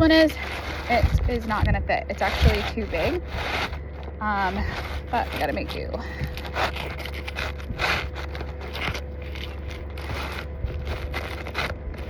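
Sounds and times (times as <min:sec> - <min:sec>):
shingle scraping and crackling: 0:00.0 - 0:12.0.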